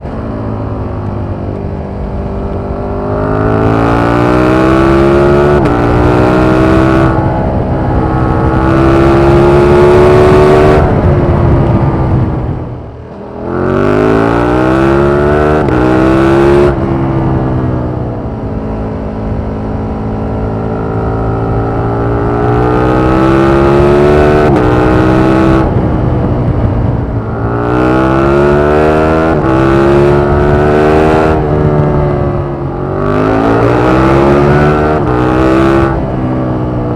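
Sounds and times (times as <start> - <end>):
motorcycle engine revving through gears: 0.0 - 36.9.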